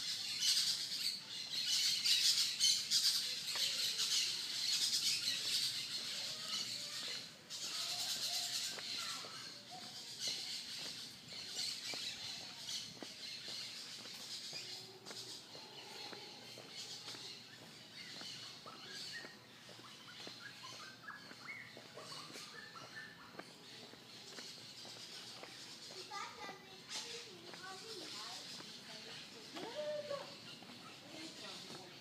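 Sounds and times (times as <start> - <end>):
birds calling: 0.0 - 32.0
high-pitched chatter: 0.0 - 32.0.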